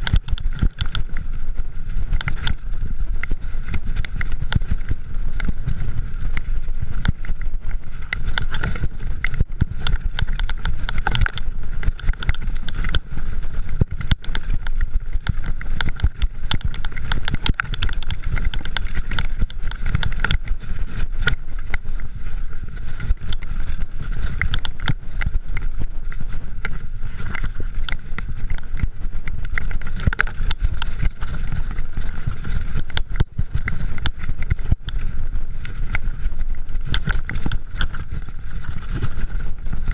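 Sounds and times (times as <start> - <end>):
bike rattling over rough ground: 0.0 - 39.9
wind and tyres rumbling: 0.0 - 39.9.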